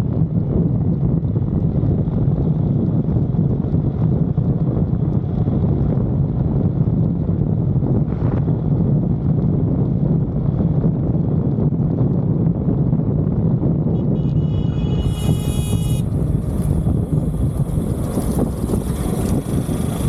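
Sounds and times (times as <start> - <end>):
low vehicle rumble: 0.0 - 20.0
wind buffeting microphone: 0.0 - 20.0.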